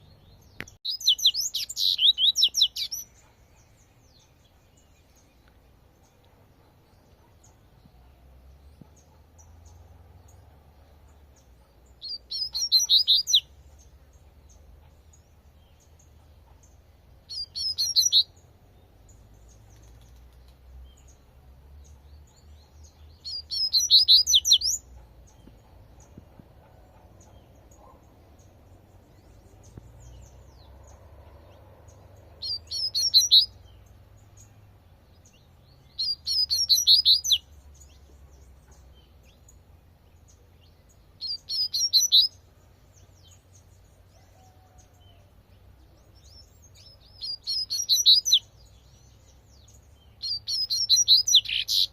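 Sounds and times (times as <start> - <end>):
faint bird chirps: 0.0 - 51.9.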